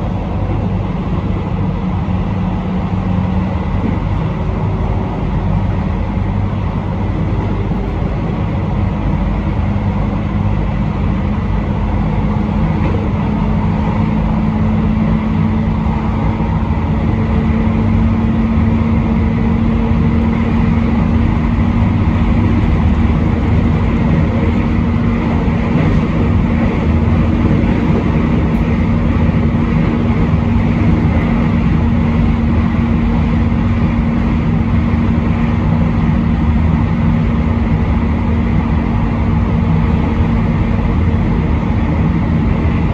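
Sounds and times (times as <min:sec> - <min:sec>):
rising train hum: 0:00.0 - 0:42.9
train wheels rumbling on rail: 0:00.0 - 0:42.9.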